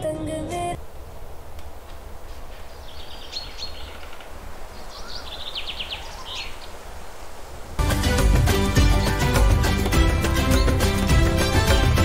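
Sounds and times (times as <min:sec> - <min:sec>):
birds chirping: 0:01.0 - 0:12.0.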